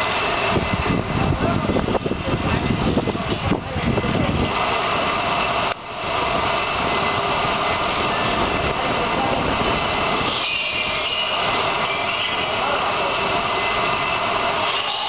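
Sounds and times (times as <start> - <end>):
industrial machinery noise: 0.0 - 15.0.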